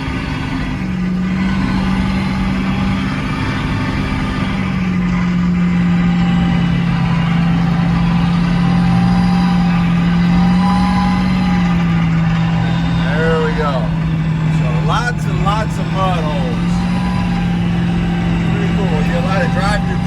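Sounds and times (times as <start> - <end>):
transfer case whine: 0.0 - 20.0
truck engine and drivetrain noise: 0.0 - 20.0.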